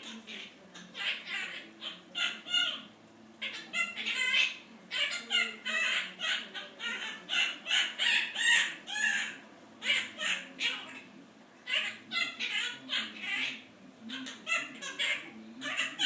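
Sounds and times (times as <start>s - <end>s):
parrot squawking: 0.0s - 16.0s.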